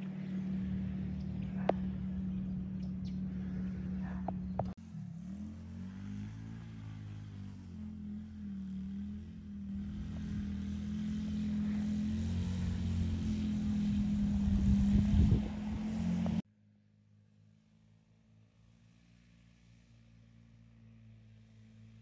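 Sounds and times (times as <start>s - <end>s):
atv engine running: 0.0s - 16.4s, 17.2s - 22.0s.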